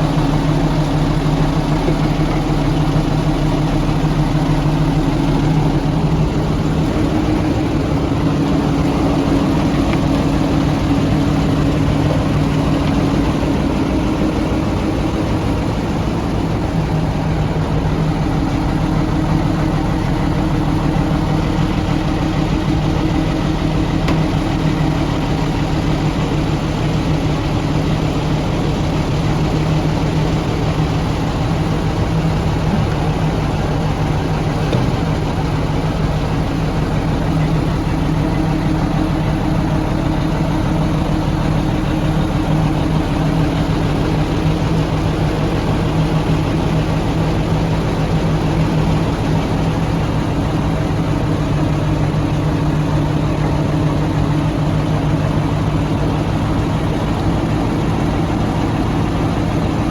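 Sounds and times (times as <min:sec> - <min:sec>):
engine humming steadily: 0:00.0 - 0:59.9.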